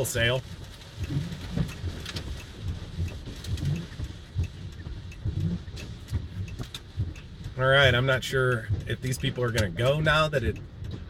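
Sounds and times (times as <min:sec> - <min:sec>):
low car cabin rumble: 0:00.0 - 0:11.0
sharp taps on car: 0:00.6 - 0:11.0.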